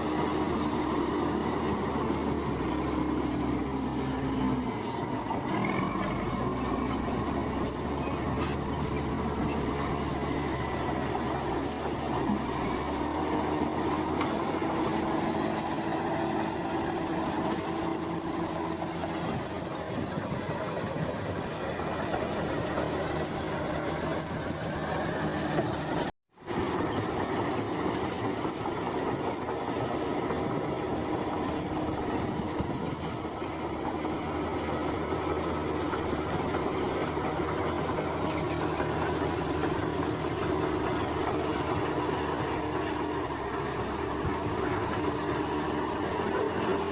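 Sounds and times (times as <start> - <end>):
bulldozer diesel engine running: 0.0 - 46.9
steel tracks squealing and clattering: 0.0 - 46.9.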